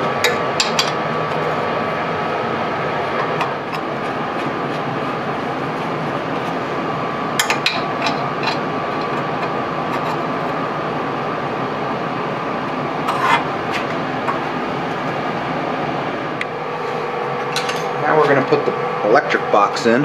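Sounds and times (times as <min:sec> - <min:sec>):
steady rushing hum: 0:00.0 - 0:20.0.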